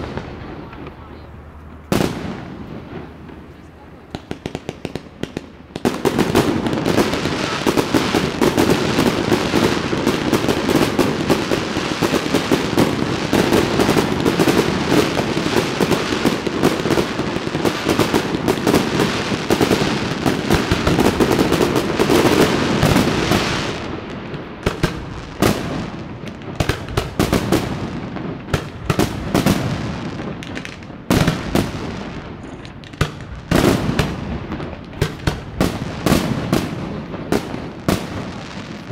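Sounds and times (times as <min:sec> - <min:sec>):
fireworks crackling bangs: 0:00.0 - 0:38.9.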